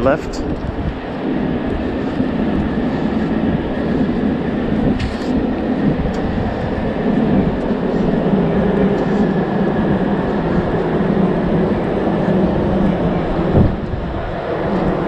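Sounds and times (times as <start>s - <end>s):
street and rail rumble: 0.0s - 15.0s.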